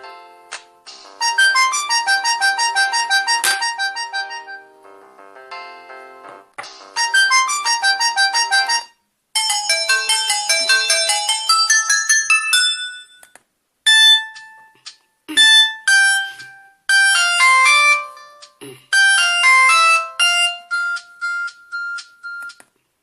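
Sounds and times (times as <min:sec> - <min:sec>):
polyphonic ringtone melody: 0:00.0 - 0:13.3, 0:13.9 - 0:22.6.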